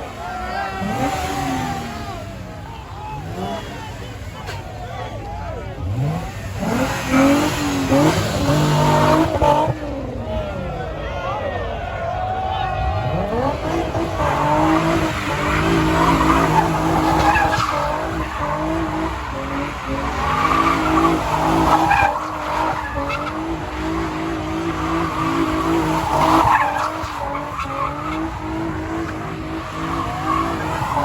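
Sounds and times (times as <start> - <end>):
car engine at high revs: 0.0 - 10.9, 12.8 - 31.0
tires squealing and skidding: 0.0 - 31.0.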